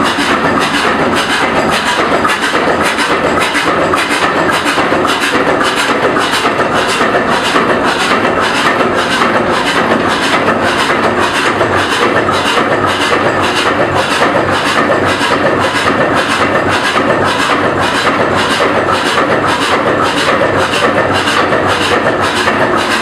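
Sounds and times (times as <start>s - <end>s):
marine engine clattering: 0.0s - 23.0s.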